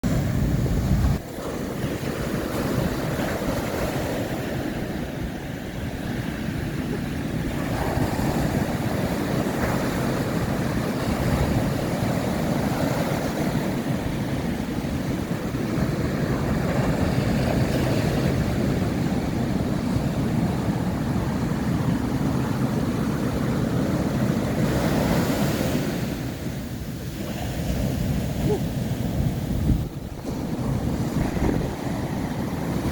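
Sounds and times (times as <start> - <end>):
ocean waves breaking on a beach: 0.0 - 32.9.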